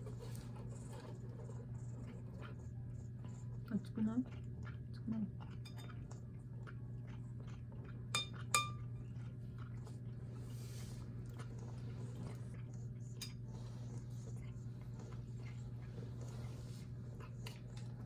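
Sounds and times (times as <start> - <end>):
cat chewing and licking food: 0.0 - 18.0.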